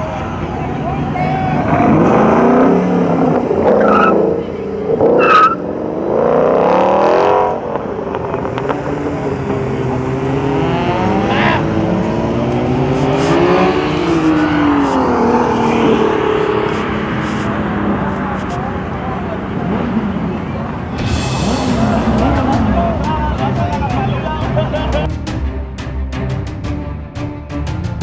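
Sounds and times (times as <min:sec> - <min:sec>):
car engine revving: 0:00.0 - 0:25.1.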